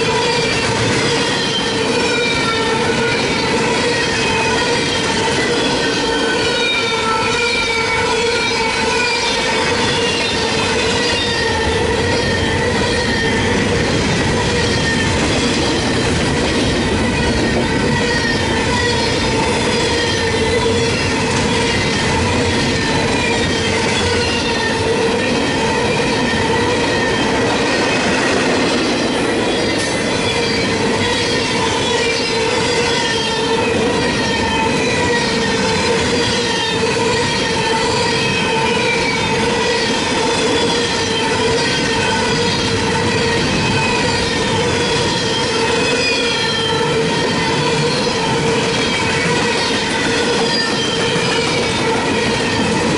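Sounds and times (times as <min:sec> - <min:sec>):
freight train rumble: 0:00.0 - 0:52.9
train wheels squealing: 0:00.0 - 0:52.9.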